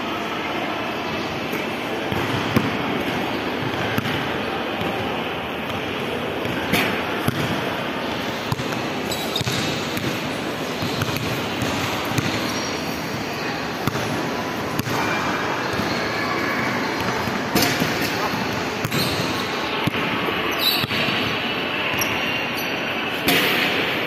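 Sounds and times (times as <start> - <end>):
hubbub of large hall: 0.0 - 24.0.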